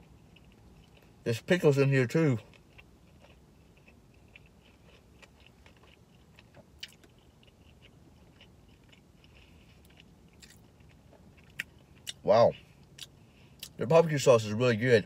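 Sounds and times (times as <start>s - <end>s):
closed-mouth chewing: 0.0s - 1.2s, 2.4s - 13.8s.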